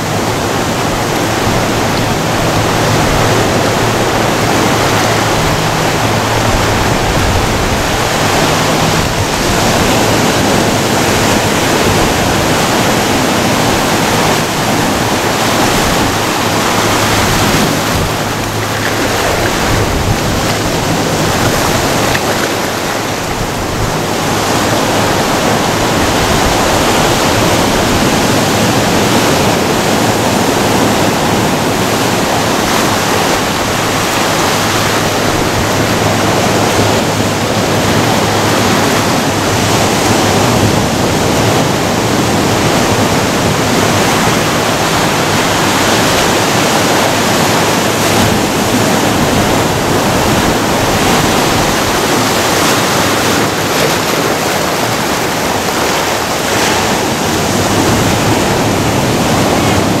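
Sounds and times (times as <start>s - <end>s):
ocean surf on rocky shore: 0.0s - 60.0s.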